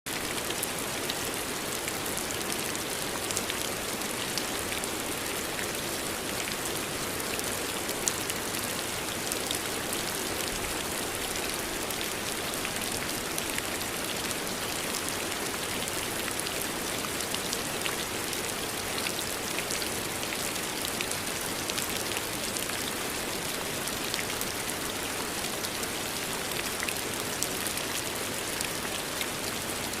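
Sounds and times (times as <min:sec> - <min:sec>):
steady rain falling: 0:00.1 - 0:30.0.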